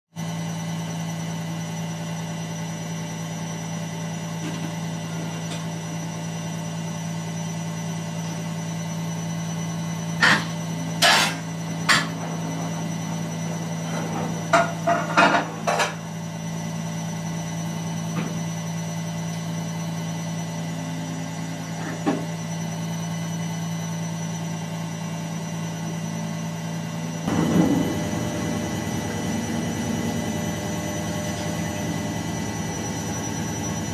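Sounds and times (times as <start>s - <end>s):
excavator diesel engine: 0.2s - 33.9s.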